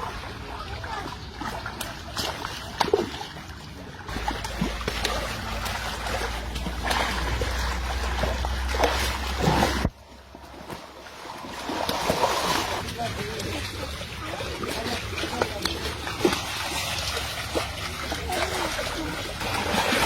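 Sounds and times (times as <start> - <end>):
low steady rumble: 0.0 - 20.0
water splashing: 0.0 - 20.0
water trickling: 0.0 - 20.0.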